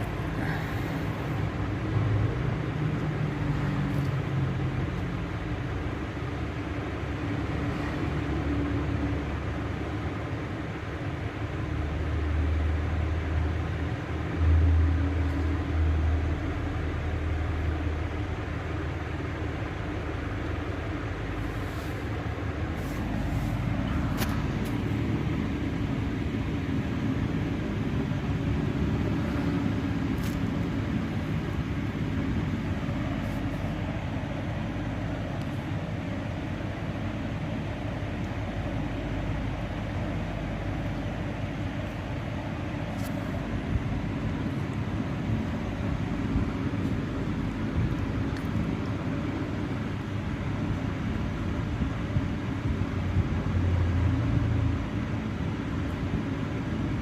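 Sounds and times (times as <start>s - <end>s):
low mechanical rumble with hum: 0.0s - 57.0s.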